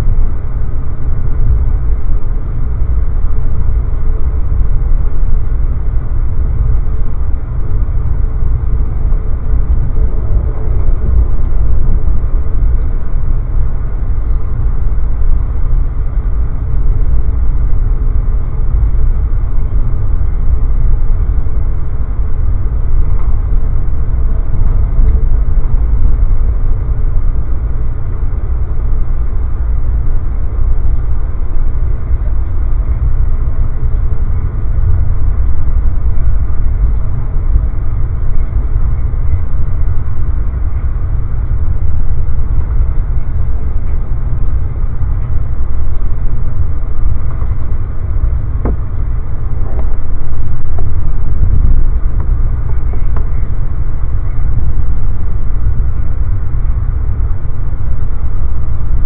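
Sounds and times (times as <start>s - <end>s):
train rumbling inside coach: 0.0s - 59.0s.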